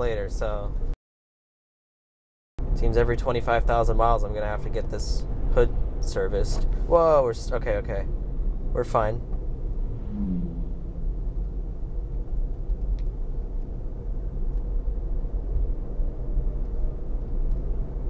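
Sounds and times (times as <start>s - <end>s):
road and tyre rumble in car: 2.6s - 18.0s.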